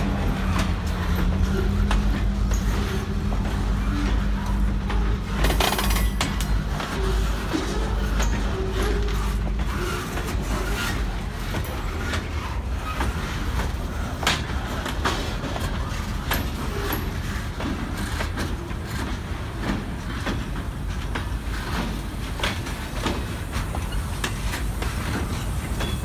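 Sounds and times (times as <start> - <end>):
train cars clanking: 0.0 - 26.0
train wheels rumbling on track: 0.0 - 26.0.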